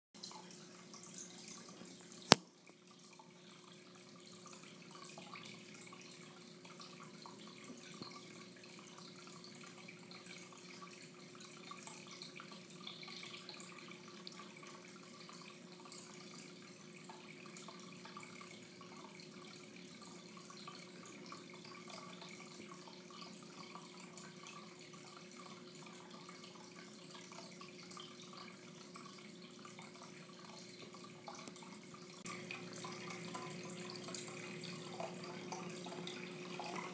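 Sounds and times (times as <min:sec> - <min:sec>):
water trickling: 0:00.2 - 0:36.9.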